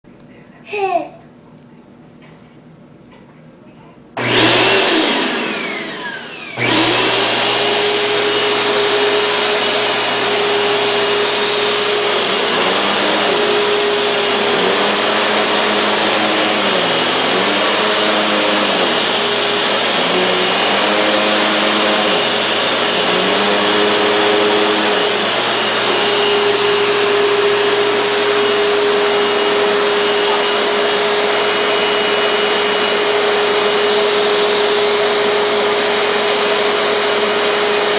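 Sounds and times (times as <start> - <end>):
vacuum cleaner motor whine: 4.2 - 37.9.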